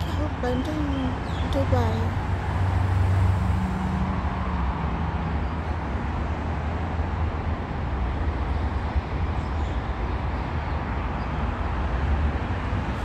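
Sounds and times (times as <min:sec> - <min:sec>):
road traffic passing cars: 0:00.0 - 0:13.0.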